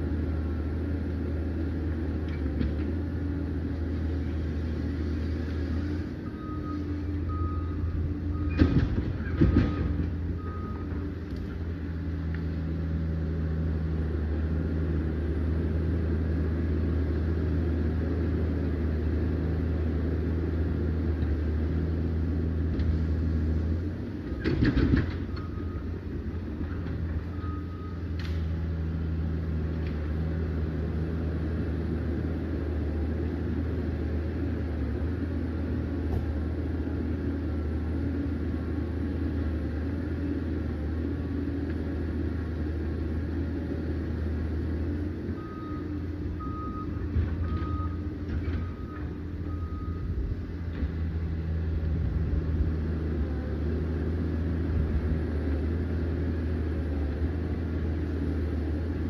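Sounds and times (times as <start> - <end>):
dozer diesel engine running: 0.0 - 59.0.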